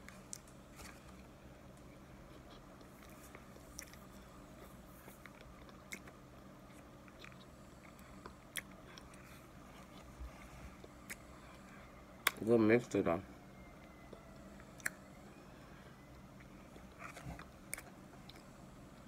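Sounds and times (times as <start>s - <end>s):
chewing dry crumbly food: 0.0s - 12.6s, 16.0s - 19.0s
low steady hum: 0.0s - 19.0s.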